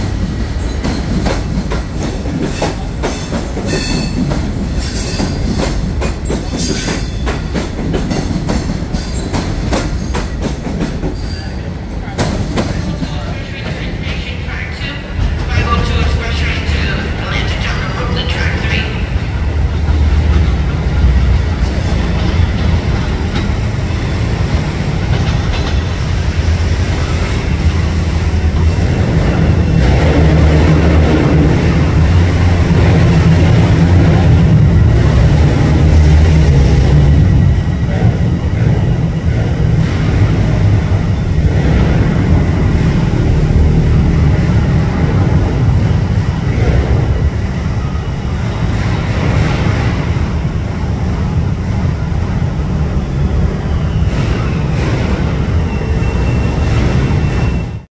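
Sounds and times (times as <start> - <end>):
diesel train rumbling: 0.0 - 57.9.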